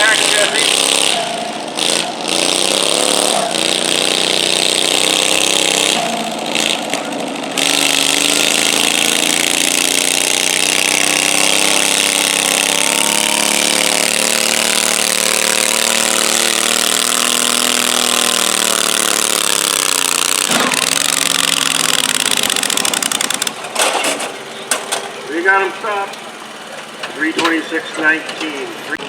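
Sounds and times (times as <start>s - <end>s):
tractor engine under heavy load: 0.0s - 29.0s.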